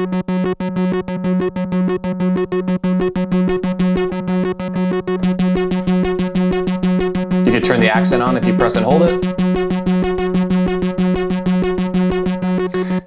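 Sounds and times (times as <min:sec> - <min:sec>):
repeated synthesizer bass notes: 0:00.0 - 0:13.0.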